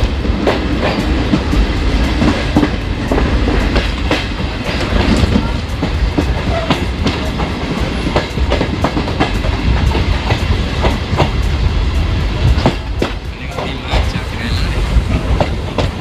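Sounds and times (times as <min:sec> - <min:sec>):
train rumble: 0:00.0 - 0:16.0
train wheels clacking: 0:00.0 - 0:16.0.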